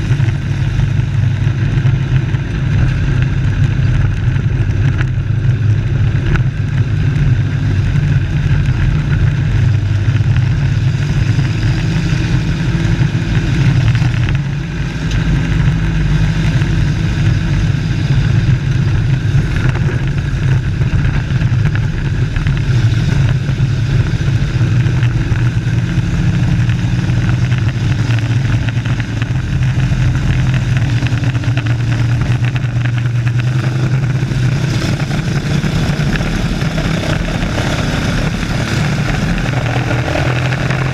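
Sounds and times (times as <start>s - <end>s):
race truck engines droning: 0.0s - 40.9s.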